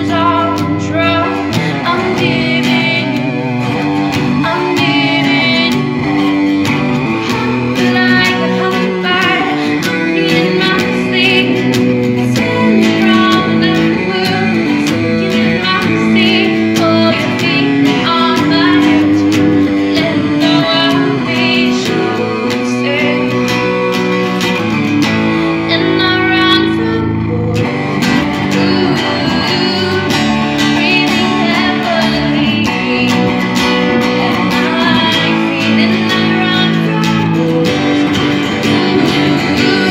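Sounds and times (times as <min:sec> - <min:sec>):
acoustic guitar strumming: 0:00.0 - 0:39.9
woman singing: 0:00.0 - 0:39.9.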